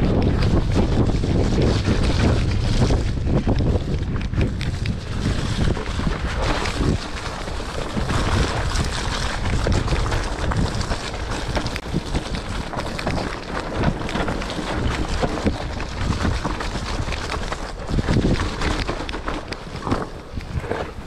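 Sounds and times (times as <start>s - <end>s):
bike knocks and rattles: 0.0s - 21.0s
mountain bike riding muddy trail: 0.0s - 21.0s
wind buffeting microphone: 0.0s - 21.0s.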